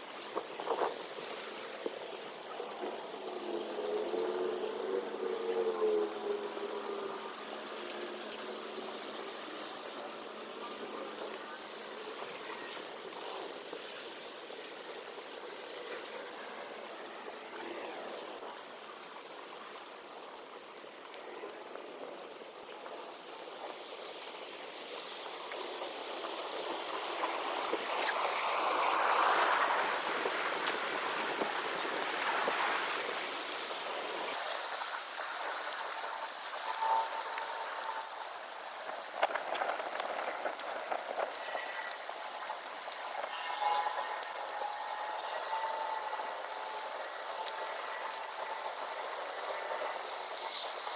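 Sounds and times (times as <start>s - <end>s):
water rushing through sluice gate: 6.1s - 24.1s, 25.3s - 50.9s.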